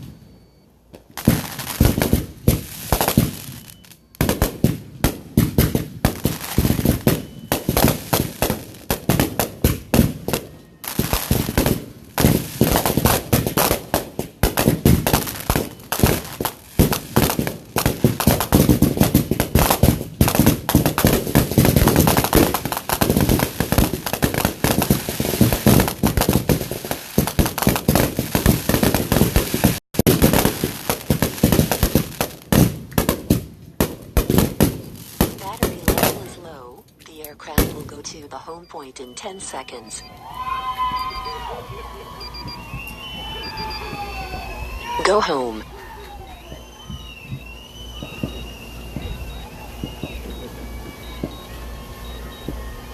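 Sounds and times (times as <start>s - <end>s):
fireworks banging and crackling: 0.0s - 40.1s, 40.8s - 52.9s.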